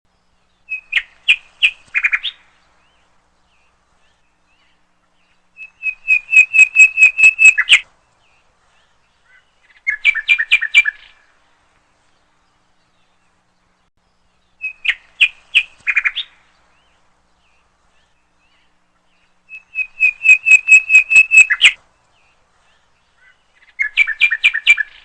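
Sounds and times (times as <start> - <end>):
songbird singing: 0.1 - 25.0.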